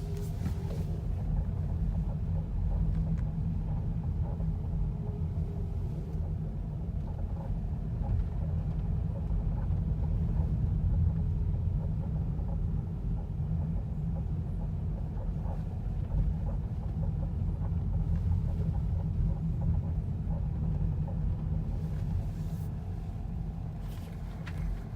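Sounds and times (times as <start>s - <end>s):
road and engine rumble: 0.0s - 24.9s.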